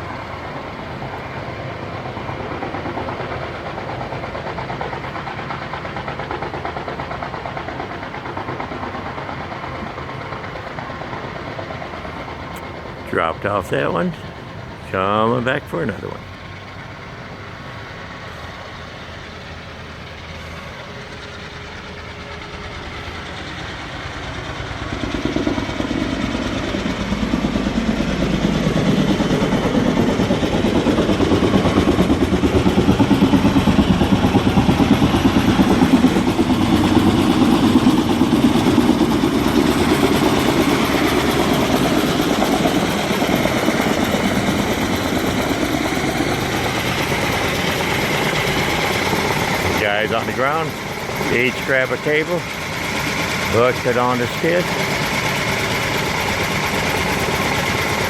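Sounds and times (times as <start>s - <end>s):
helicopter rotor beat: 0.0s - 58.0s.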